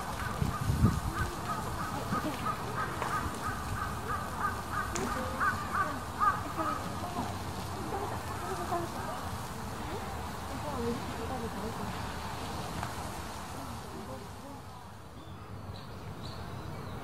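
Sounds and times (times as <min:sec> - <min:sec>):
faint murmur of voices: 0:00.0 - 0:17.0.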